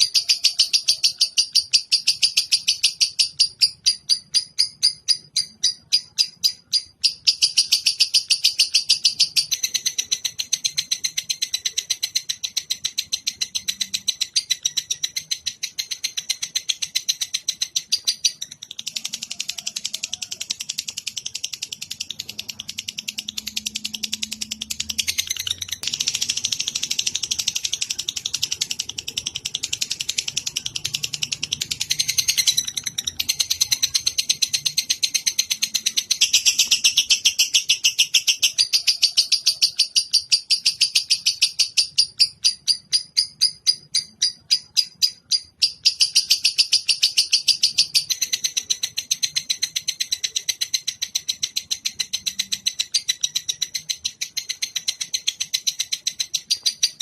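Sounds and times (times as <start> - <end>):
songbird chattering and trilling: 0.0 - 57.0.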